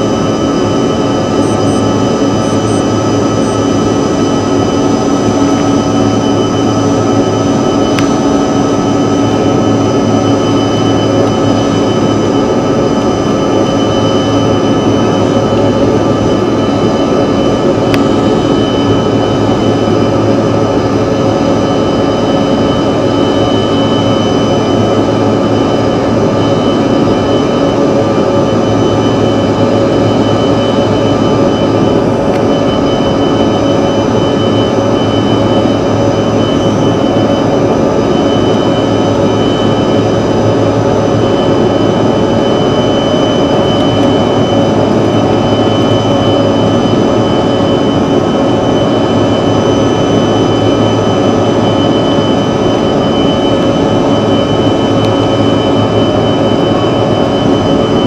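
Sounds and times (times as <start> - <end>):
jet engine cabin roar with whine: 0.0 - 58.0.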